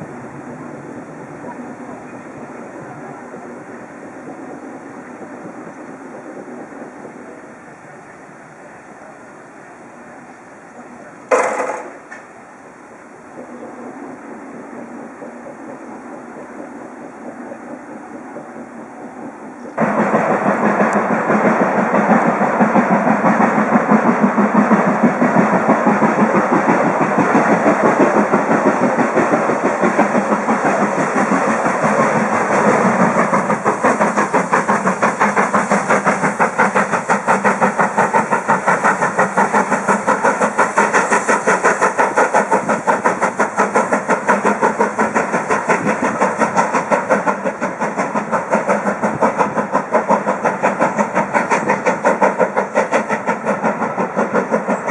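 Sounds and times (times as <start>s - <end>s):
rumble of train coaches: 0.0s - 54.9s
steam locomotive exhaust beat: 0.0s - 54.9s.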